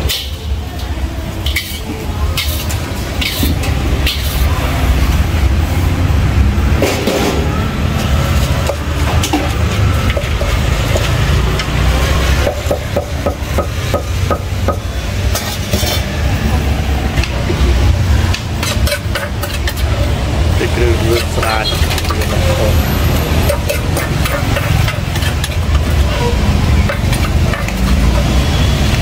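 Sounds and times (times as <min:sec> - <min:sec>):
kitchen utensils and dishes clattering: 0:00.0 - 0:05.4, 0:06.6 - 0:29.0.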